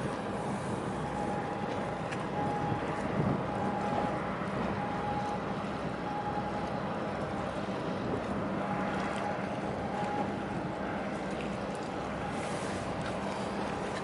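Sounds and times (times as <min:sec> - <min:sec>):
boat engine running: 0:00.0 - 0:14.0
water noise: 0:00.0 - 0:14.0
wind: 0:00.0 - 0:14.0.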